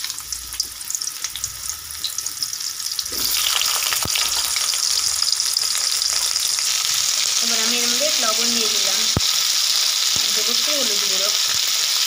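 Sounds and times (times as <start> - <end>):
oil crackles: 0.0 - 12.0
vegetables sizzling in hot oil: 0.0 - 12.0.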